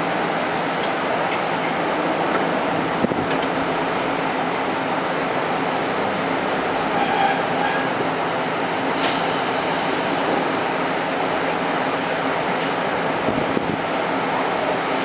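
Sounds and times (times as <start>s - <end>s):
diesel railcar rumbling: 0.0s - 15.0s.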